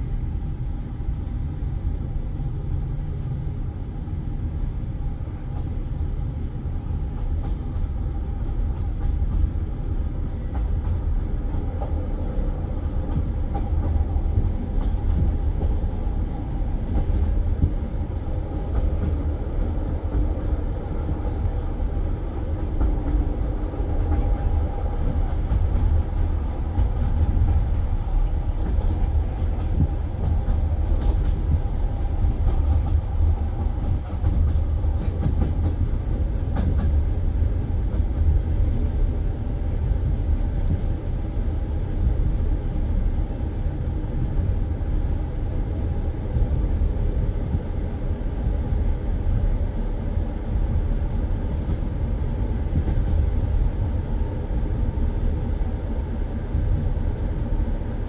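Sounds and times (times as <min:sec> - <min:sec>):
train carriage rumbling on rails: 0:00.0 - 0:58.0.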